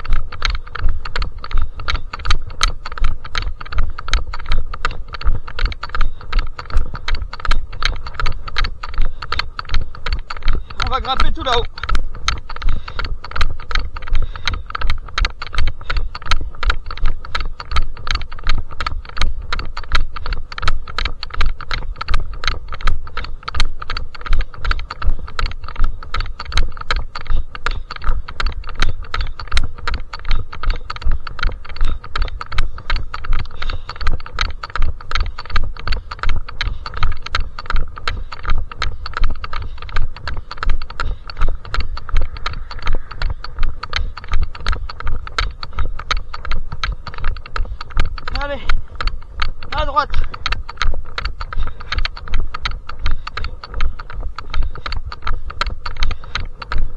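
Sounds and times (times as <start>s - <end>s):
running footsteps on trail: 0.0s - 56.9s.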